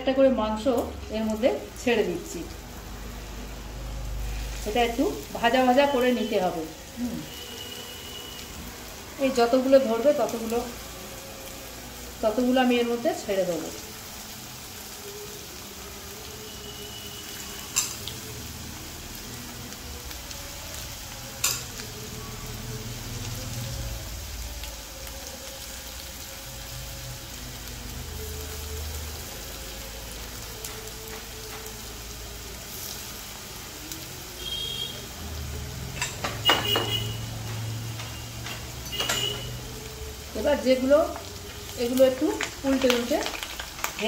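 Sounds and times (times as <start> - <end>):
chicken sizzling in hot oil: 0.5 - 44.0.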